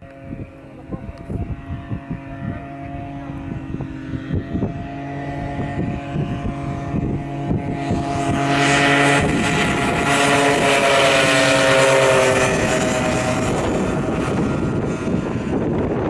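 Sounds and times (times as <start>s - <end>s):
light aircraft engine humming: 0.0s - 16.0s
engine popping: 0.2s - 16.0s.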